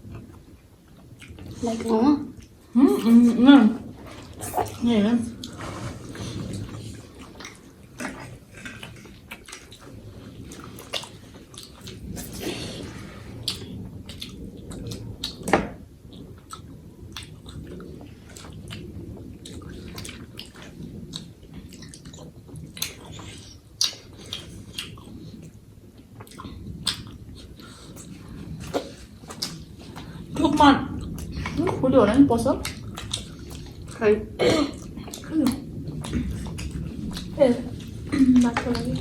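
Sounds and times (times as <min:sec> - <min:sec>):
chewing and mouth noises: 0:00.0 - 0:39.0.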